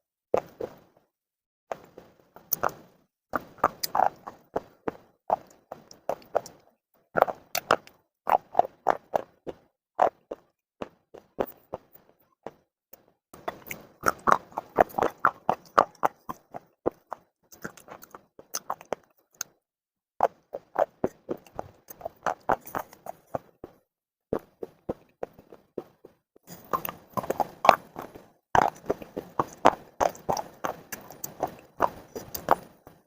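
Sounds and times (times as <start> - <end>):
crunchy chewing: 0.4 - 0.9, 1.7 - 19.6, 20.2 - 33.0.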